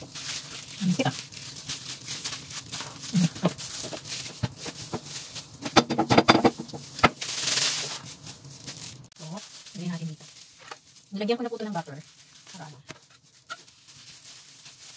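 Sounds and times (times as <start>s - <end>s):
soft rustle: 0.1s - 5.6s, 6.8s - 14.9s.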